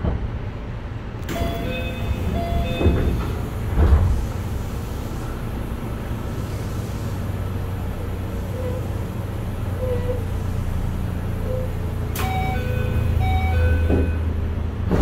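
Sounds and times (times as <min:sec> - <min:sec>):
train car equipment humming: 0:00.0 - 0:15.0.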